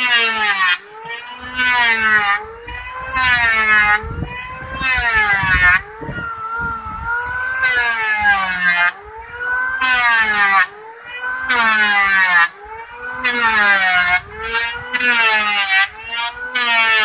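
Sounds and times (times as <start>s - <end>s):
electric planer motor whine: 0.0s - 17.0s
rush of cutting shavings: 0.0s - 17.0s.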